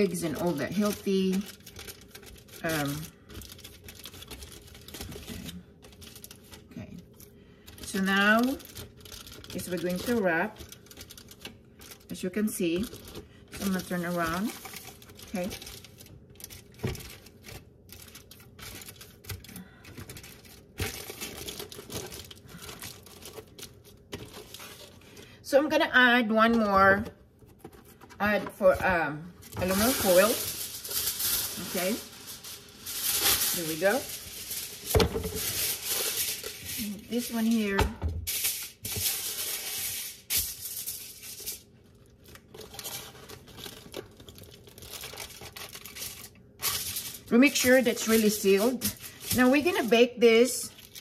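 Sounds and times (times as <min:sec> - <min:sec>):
aluminum foil crinkling: 0:00.0 - 0:25.4, 0:26.5 - 0:51.0.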